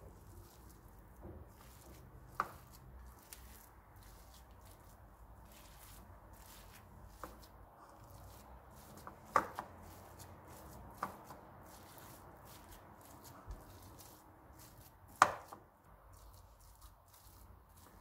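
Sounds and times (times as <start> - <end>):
spatula squishing food: 0.0 - 18.0.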